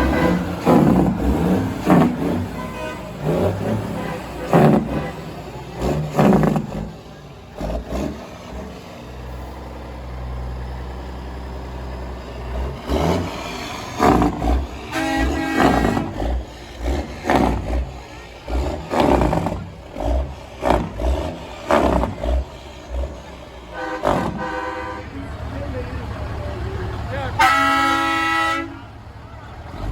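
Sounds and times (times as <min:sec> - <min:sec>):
truck diesel engines: 0:00.0 - 0:29.9.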